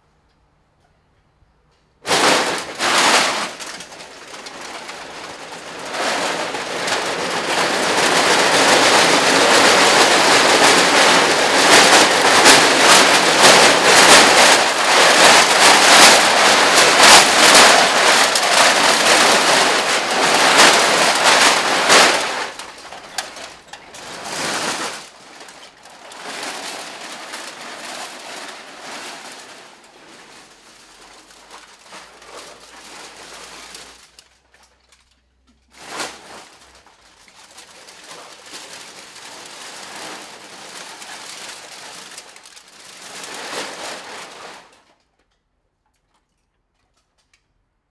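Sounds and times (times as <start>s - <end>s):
drink cans clattering together: 2.1s - 44.7s.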